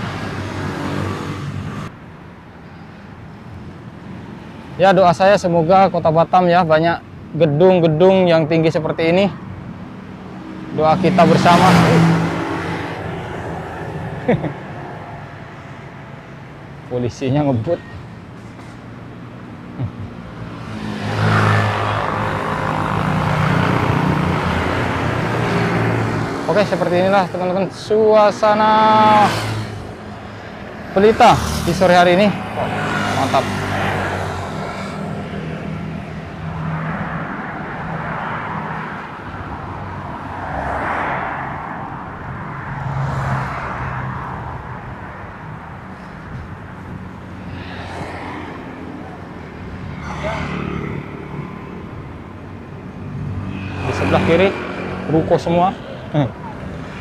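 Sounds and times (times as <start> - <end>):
motor scooters passing: 0.0 - 1.9, 9.8 - 16.5, 17.1 - 57.0.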